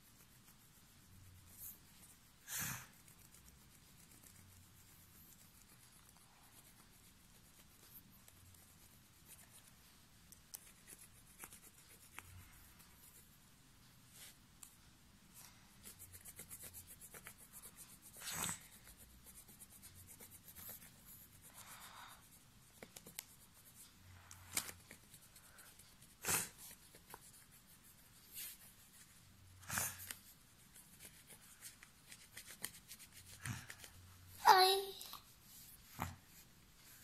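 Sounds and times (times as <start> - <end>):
pencil scratching on paper: 0.0 - 13.4, 15.4 - 34.6.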